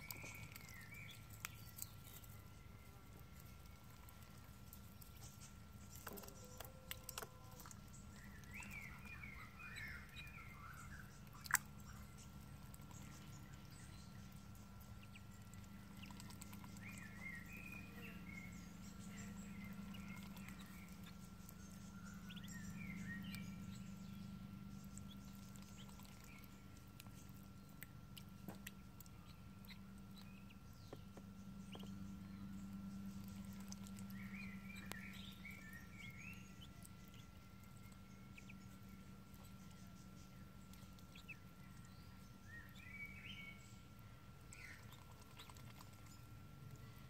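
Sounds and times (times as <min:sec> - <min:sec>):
ducklings peeping: 0:00.0 - 0:47.0.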